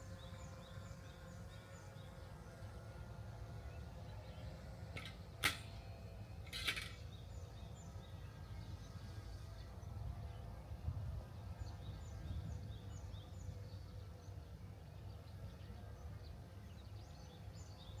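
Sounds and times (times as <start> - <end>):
small birds chirping: 0.0 - 10.7, 11.3 - 18.0.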